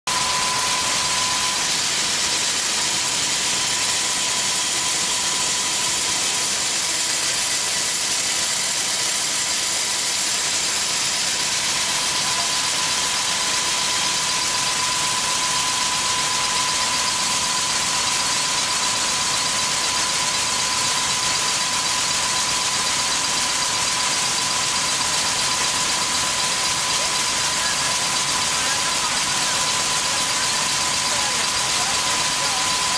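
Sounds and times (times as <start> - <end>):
machine running with high whine: 0.1 - 32.9.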